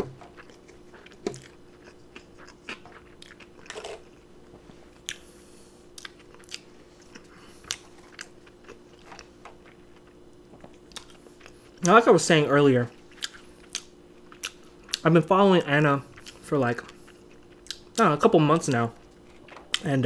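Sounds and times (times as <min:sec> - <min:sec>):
person chewing: 0:00.0 - 0:12.0, 0:12.8 - 0:20.0.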